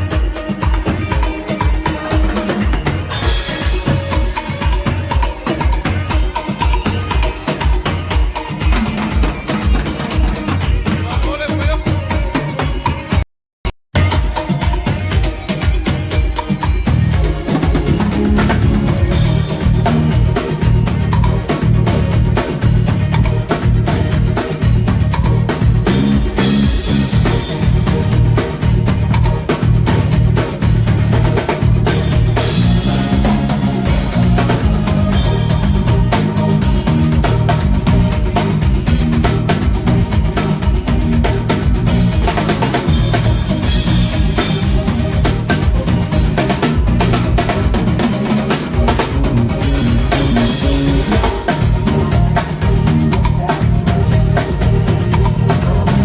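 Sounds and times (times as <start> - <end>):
bass line: 0.0 - 56.0
drum kit playing: 0.0 - 56.0.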